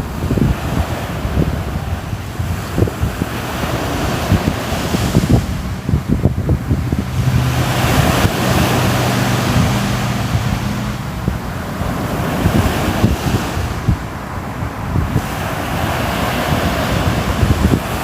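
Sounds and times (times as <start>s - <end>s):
ocean wave breaking: 0.0s - 18.0s
wind buffeting microphone: 0.0s - 18.0s.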